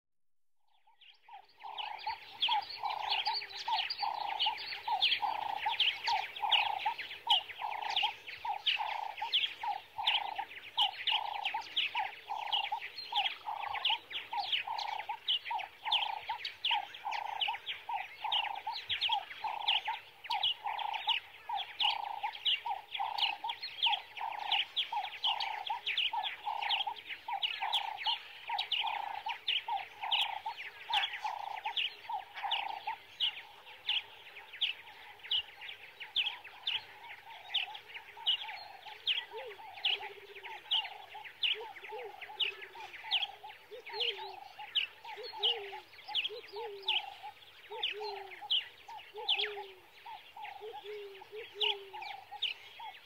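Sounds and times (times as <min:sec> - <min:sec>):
bird calling rhythmically: 0:00.6 - 0:53.0.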